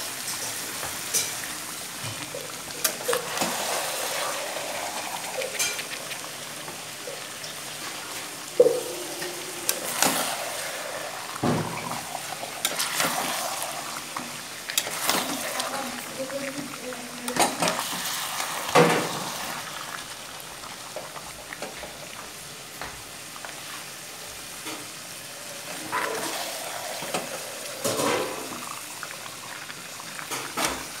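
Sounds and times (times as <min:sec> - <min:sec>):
curry sizzling in a pan: 0:00.0 - 0:31.0.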